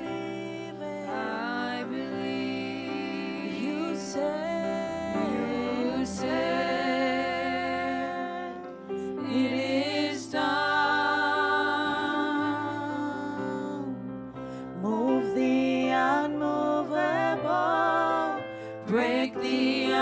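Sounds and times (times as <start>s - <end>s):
person singing: 0.0s - 10.6s, 11.2s - 20.0s
sustained keyboard chords: 0.0s - 20.0s.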